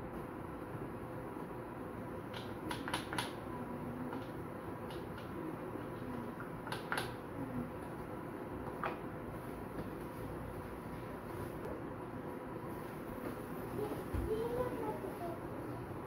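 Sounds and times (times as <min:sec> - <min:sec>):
steady fan-like hum: 0:00.0 - 0:16.0.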